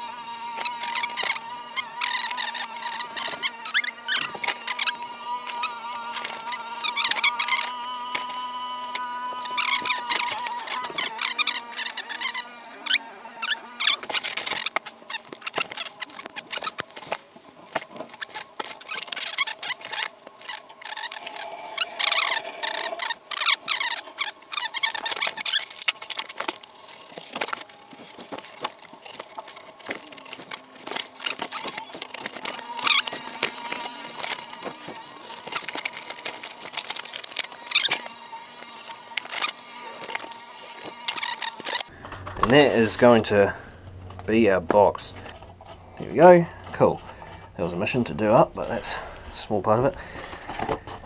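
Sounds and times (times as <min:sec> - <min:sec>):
cardboard scraping and rubbing: 0:00.0 - 0:41.9.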